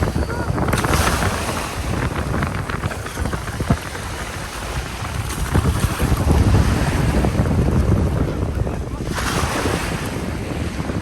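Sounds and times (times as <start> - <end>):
sea waves: 0.0 - 11.0
wind buffeting microphone: 0.0 - 11.0.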